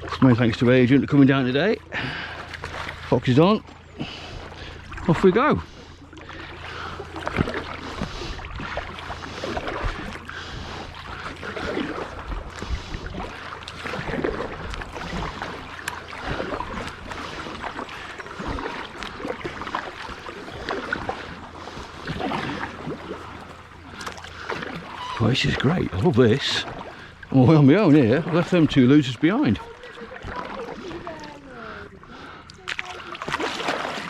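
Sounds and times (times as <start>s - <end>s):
steady low hum: 0.0s - 34.0s
water splashing around boat: 0.0s - 34.0s.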